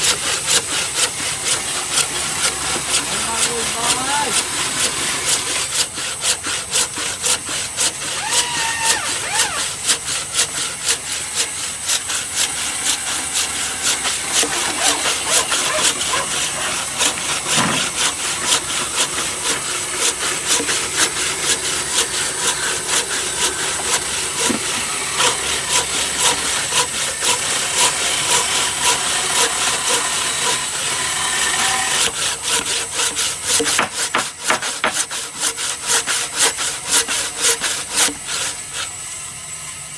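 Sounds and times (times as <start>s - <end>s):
hand saw cutting wood: 0.0s - 39.9s.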